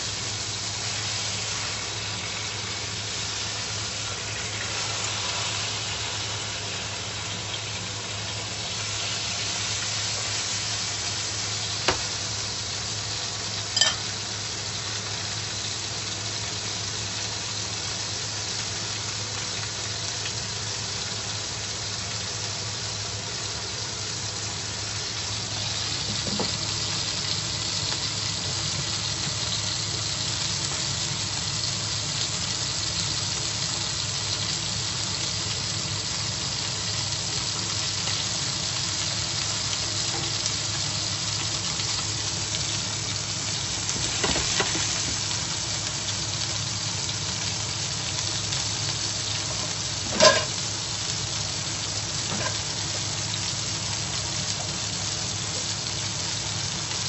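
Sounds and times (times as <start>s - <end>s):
steak sizzling in frying pan: 0.0s - 57.0s.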